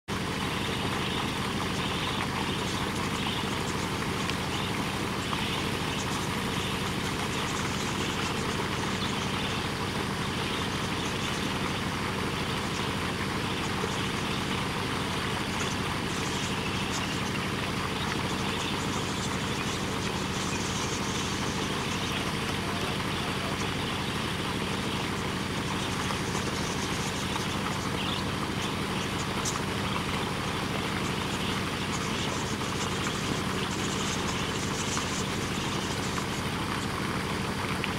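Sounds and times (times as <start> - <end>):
vehicle engine idling: 0.1 - 37.9.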